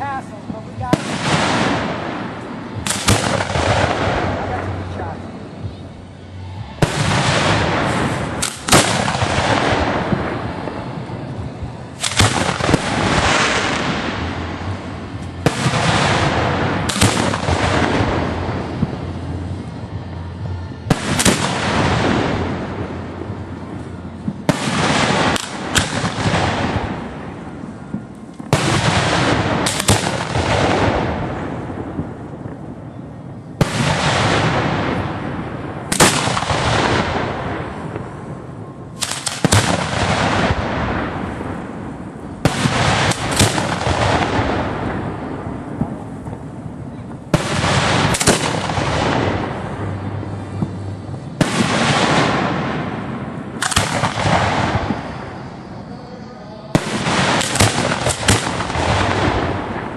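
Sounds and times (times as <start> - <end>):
firework shells firing: 0.0 - 5.8, 6.8 - 32.7, 33.4 - 59.9
rumbling decay: 0.0 - 56.0, 56.7 - 59.9.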